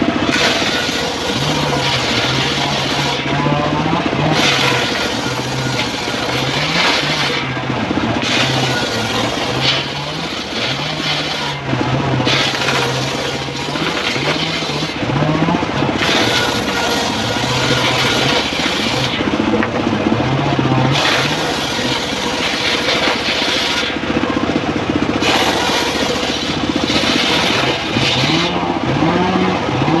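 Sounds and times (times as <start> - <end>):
engine running: 0.0 - 30.0
saw blade cutting wood: 0.0 - 30.0.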